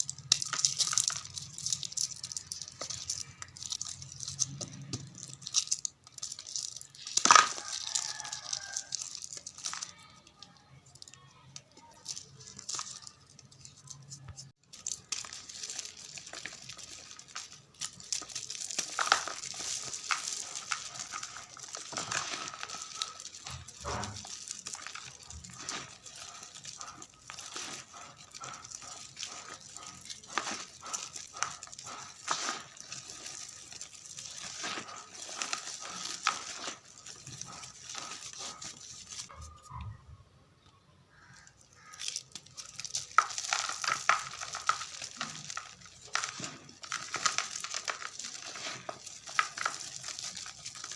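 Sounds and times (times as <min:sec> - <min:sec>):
chalk crumbled by hand: 0:00.0 - 0:39.9, 0:41.1 - 0:50.9.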